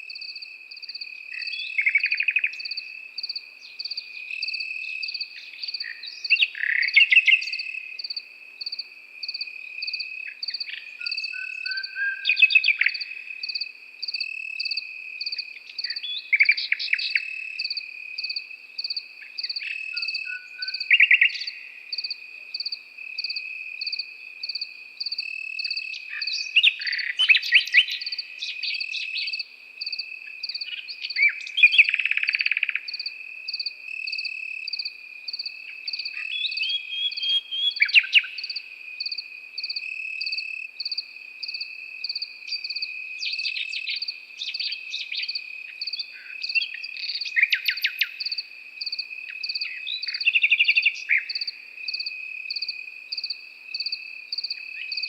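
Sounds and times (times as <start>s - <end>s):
cricket chirping: 0.0s - 55.0s
nightingale singing: 0.0s - 55.0s
cricket trilling: 0.1s - 55.0s.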